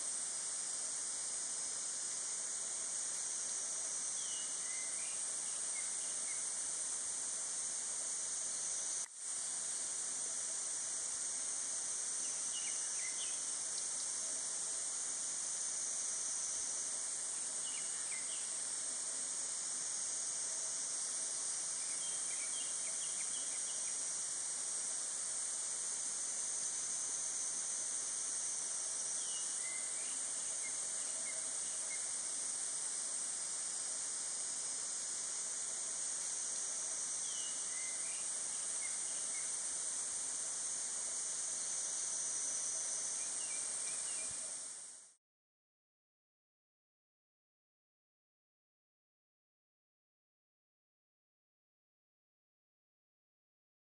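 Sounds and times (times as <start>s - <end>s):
high-pitched insect drone: 0.0s - 45.2s.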